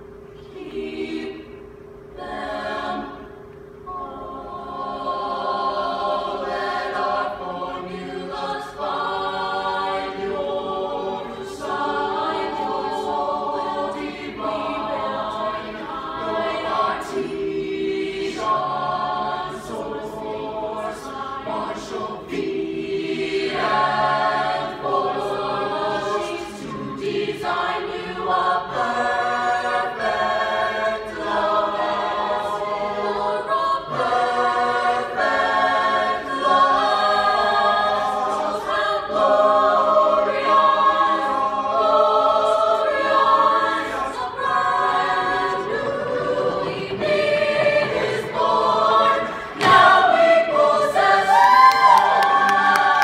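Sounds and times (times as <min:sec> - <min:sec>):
choir singing held chords: 0:00.0 - 0:53.0.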